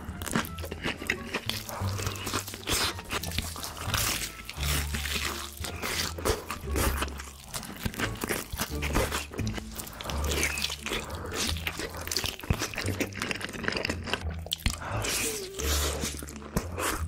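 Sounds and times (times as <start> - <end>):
crunching and chewing food: 0.0 - 17.0.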